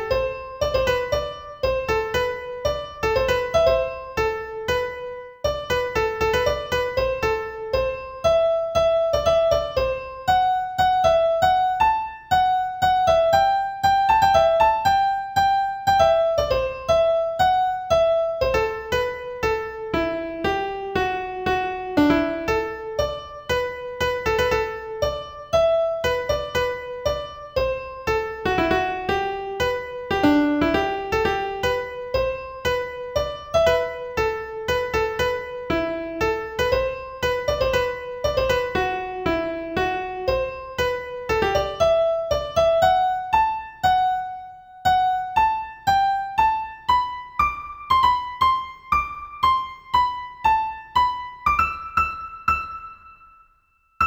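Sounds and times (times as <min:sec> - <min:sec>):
keyboard playing simple melody: 0:00.0 - 0:54.0.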